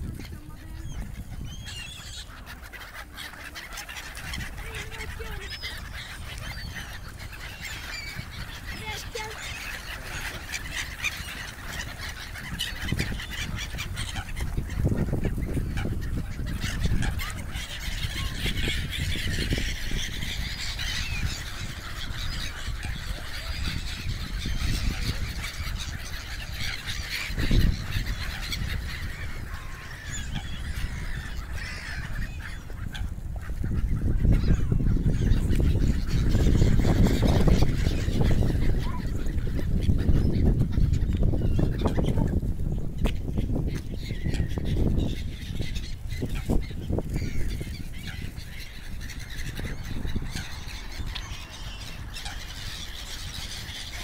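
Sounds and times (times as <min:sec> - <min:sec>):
gulls squawking: 0:00.0 - 0:54.0
wind rumbling on microphone: 0:00.0 - 0:54.0.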